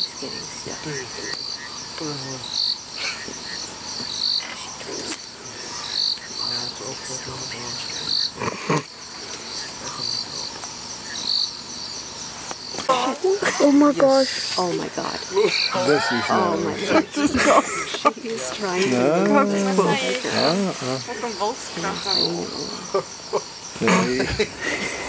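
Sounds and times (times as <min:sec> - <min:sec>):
insect chirp: 0:00.0 - 0:25.0
insects trilling: 0:00.0 - 0:25.0.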